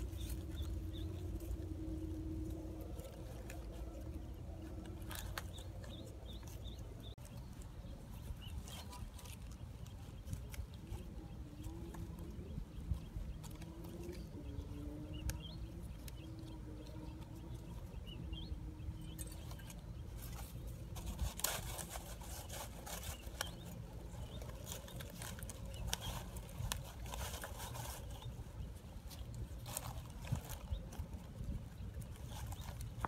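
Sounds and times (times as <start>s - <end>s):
grass leaves rustling and crackling: 0.0s - 33.0s
steady low rumble: 0.0s - 33.0s.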